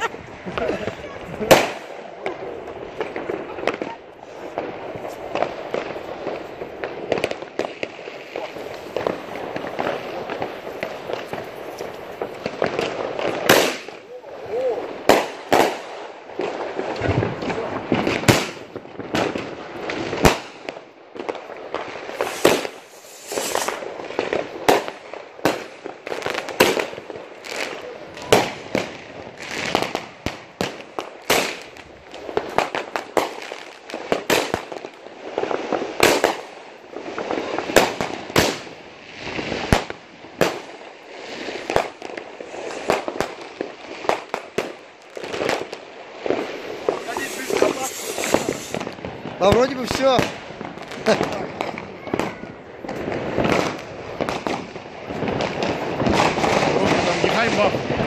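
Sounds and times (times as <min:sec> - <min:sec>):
fireworks bangs: 0:00.0 - 0:58.0
fireworks crackling and hissing: 0:00.0 - 0:58.0.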